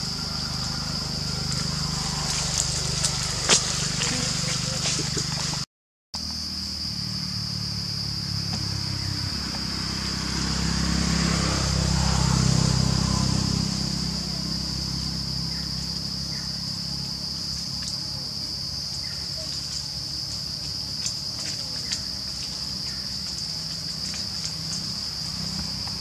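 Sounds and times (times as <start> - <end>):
insect chorus drone: 0.0 - 5.6, 6.2 - 26.0.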